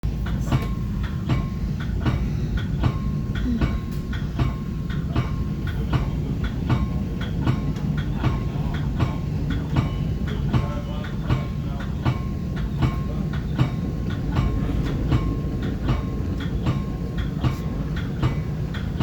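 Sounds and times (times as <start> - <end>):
train rumbling on track: 0.0 - 19.0
wheels clicking over rail joints: 0.0 - 19.0.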